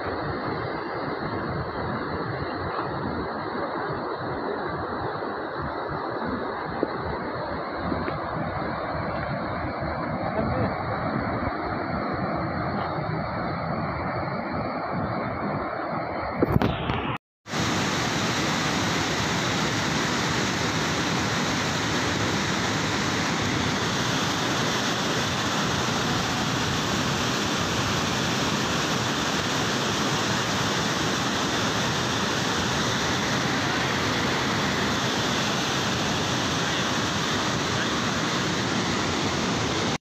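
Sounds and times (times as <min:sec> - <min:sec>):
water rushing from spillway: 0:00.0 - 0:16.9, 0:17.5 - 0:40.0.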